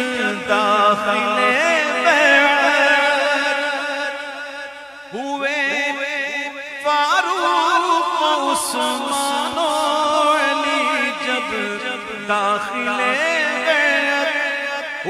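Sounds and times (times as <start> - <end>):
man singing ornamented melody: 0.0 - 15.0.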